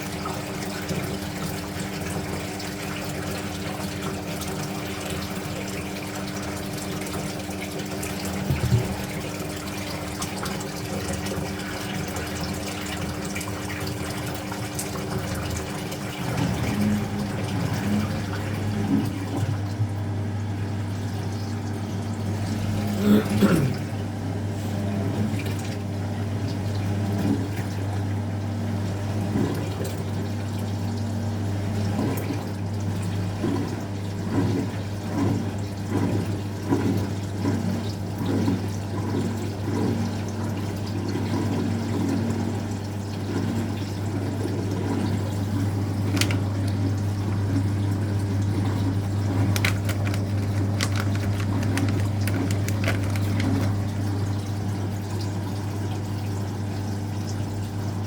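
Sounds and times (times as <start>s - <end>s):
washing machine humming: 0.0s - 58.0s
water sloshing in washing machine: 0.0s - 58.0s.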